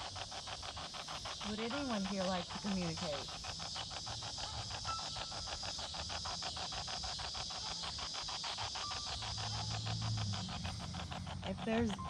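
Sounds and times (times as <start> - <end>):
chopped static hiss pulses: 0.0 - 12.0.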